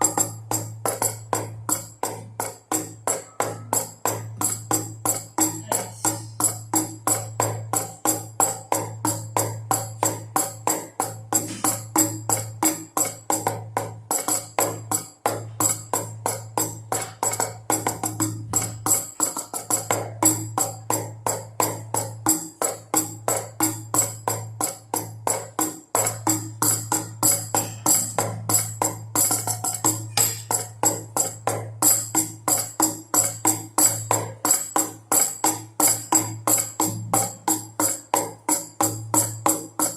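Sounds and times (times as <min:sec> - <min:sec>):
drum beats: 0:00.0 - 0:39.9.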